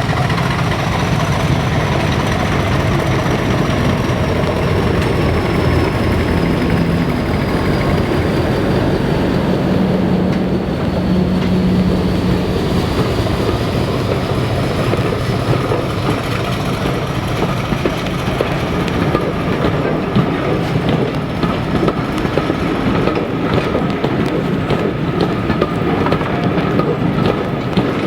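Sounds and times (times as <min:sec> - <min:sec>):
train wheels rumbling on rails: 0:00.0 - 0:28.0
wheels clicking over rail joints: 0:00.0 - 0:28.0.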